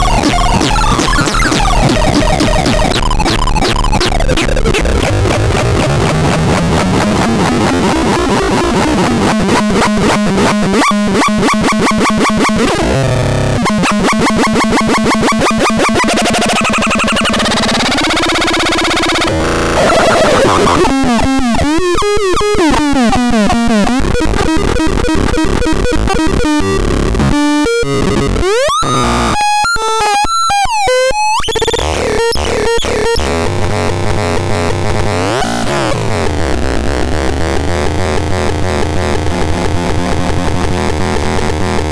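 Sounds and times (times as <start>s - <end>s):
synthesizer pulsing tones: 0.0s - 36.6s.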